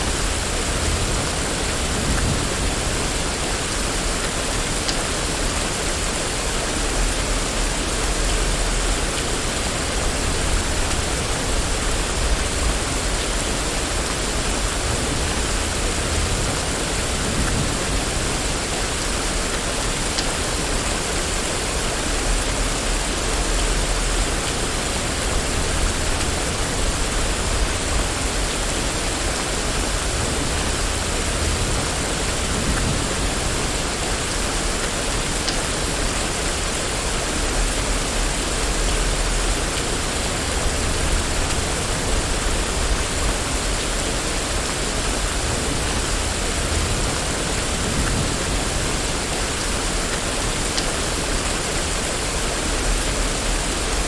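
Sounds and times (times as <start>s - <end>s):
rain falling on a street: 0.0s - 54.0s.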